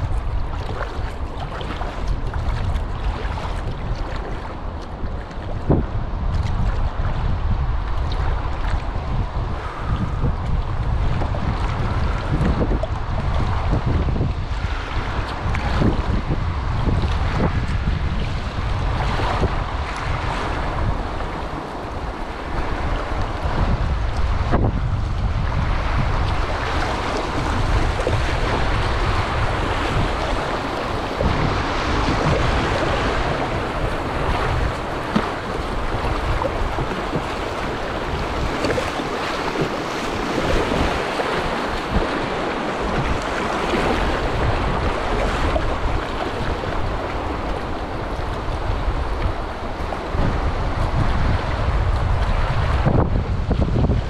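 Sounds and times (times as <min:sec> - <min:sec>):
whitewater rushing and splashing: 0:00.0 - 0:54.0
wind buffeting microphone: 0:00.0 - 0:54.0.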